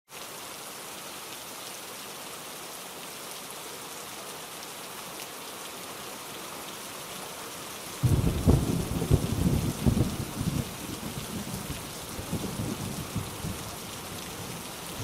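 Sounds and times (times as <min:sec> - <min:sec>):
steady rain pattering: 0:00.1 - 0:15.0.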